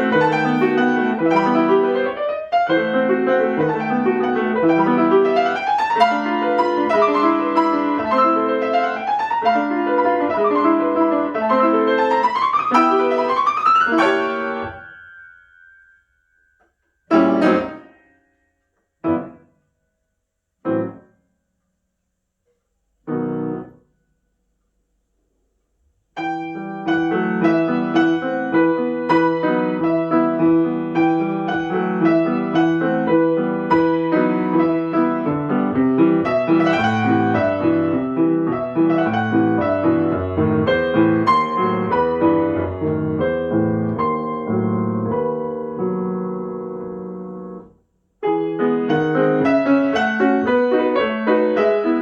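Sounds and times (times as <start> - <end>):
solo piano classical piece: 0.0 - 19.7, 20.5 - 21.3, 22.3 - 52.0.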